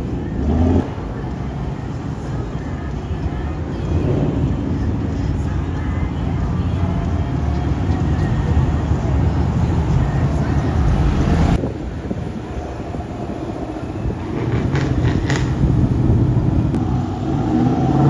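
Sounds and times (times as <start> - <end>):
car engine rumbling: 0.0 - 18.0
wind noise on microphone: 0.0 - 18.0.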